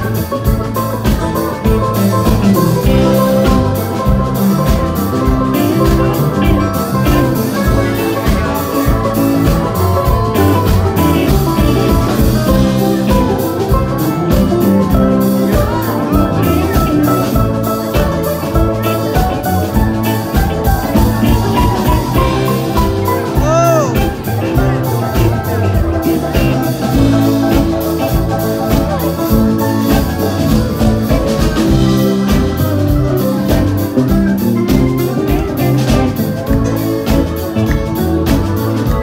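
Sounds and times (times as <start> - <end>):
banjo picking: 0.0 - 39.0.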